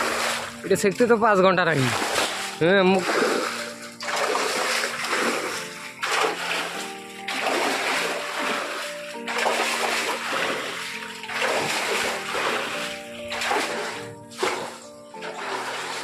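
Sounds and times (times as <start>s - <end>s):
background music: 0.0s - 16.0s
water splashing from bucket: 0.0s - 16.0s.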